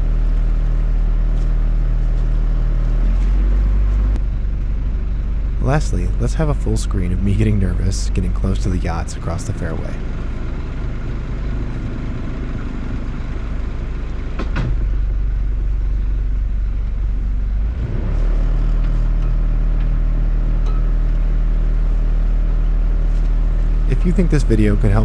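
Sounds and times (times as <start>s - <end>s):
boat diesel engine running: 0.0s - 25.0s.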